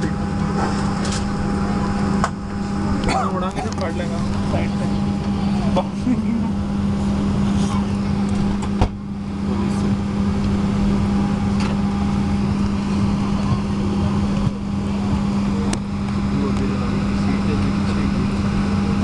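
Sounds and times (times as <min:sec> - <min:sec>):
aircraft cabin hum and air rush: 0:00.0 - 0:19.0.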